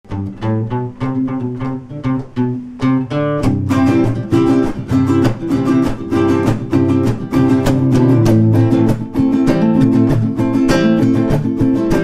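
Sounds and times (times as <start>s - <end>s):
acoustic guitars playing: 0.1s - 12.0s.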